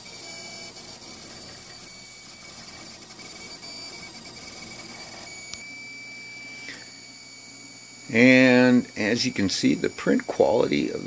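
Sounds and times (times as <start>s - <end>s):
cooling fans whining: 0.0s - 11.0s.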